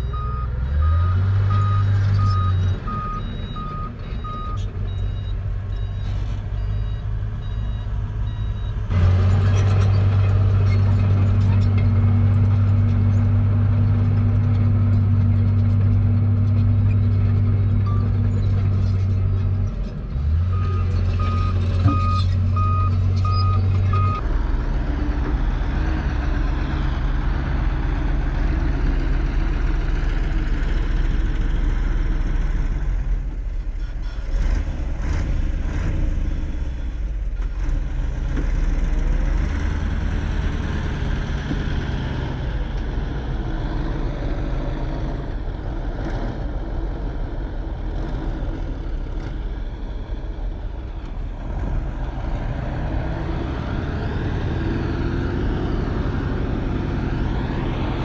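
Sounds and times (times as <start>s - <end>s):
heavy diesel machinery engine: 0.0s - 58.0s.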